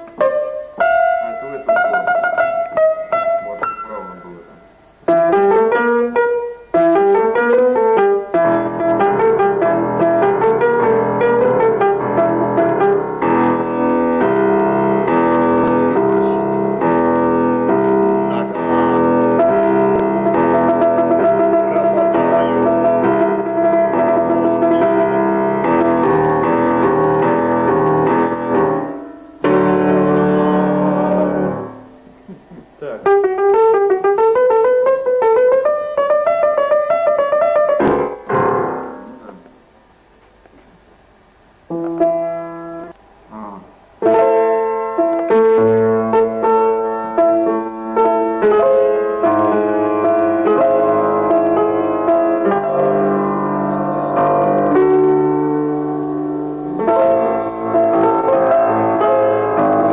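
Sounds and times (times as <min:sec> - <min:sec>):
piano notes and chords: 0:00.0 - 0:59.9.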